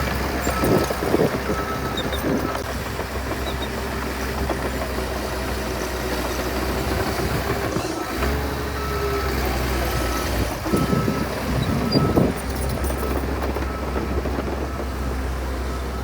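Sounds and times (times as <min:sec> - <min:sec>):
heavy diesel engine rumbling: 0:00.0 - 0:16.0.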